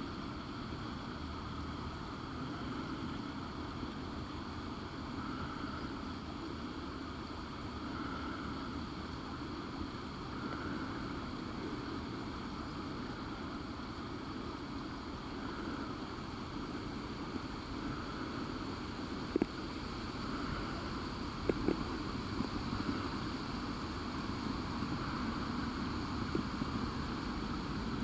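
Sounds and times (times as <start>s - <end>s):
muffled underwater pool noise: 0.0s - 28.0s.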